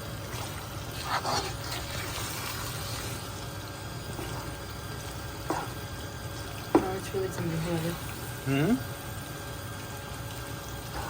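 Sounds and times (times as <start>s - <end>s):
filling sizzling in a pan: 0.0s - 11.0s.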